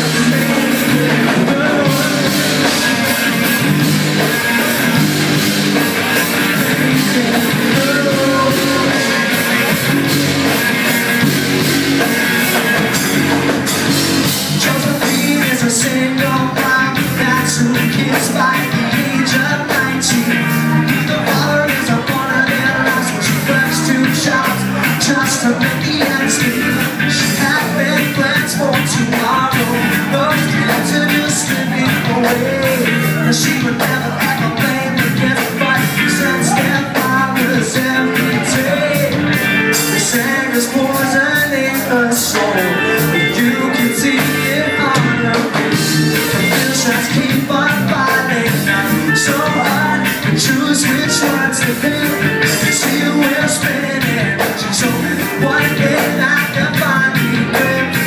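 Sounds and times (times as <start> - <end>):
bass guitar: 0.0 - 58.0
drums with cymbal strokes: 0.0 - 58.0
electric guitars: 0.0 - 58.0
person singing: 0.0 - 58.0.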